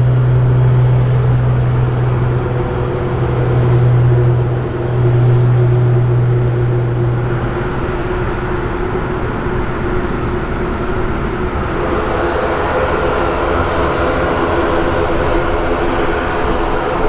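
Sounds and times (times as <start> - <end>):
aircraft engines rumbling: 0.0 - 17.0
engine hums: 0.0 - 17.0.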